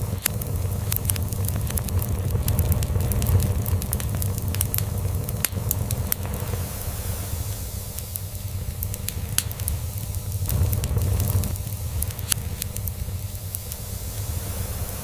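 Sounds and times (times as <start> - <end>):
log fire crackling and popping: 0.0 - 15.0.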